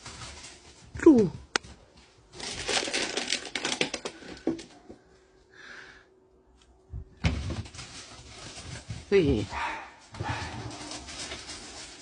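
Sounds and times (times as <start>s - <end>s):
close rustling and crackling: 0.0s - 5.0s, 7.3s - 12.0s.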